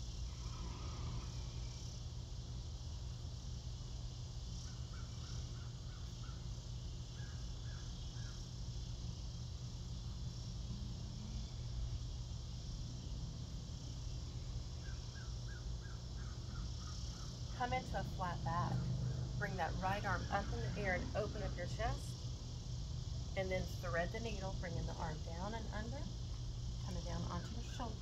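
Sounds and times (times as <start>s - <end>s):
crickets buzzing: 0.0s - 28.0s
low steady rumble: 0.0s - 28.0s.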